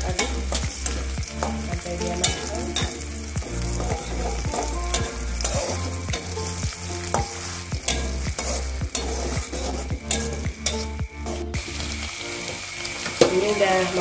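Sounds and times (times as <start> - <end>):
food sizzling in oil: 0.0 - 14.0
metal spatula scraping wok: 0.0 - 14.0
spatula striking pan: 0.1 - 11.4.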